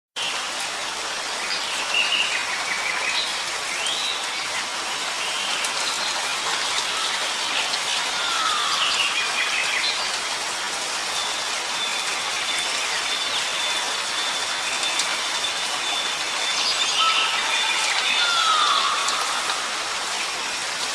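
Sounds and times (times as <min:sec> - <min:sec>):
rain hiss: 0:00.2 - 0:20.9
birds calling: 0:02.1 - 0:20.9.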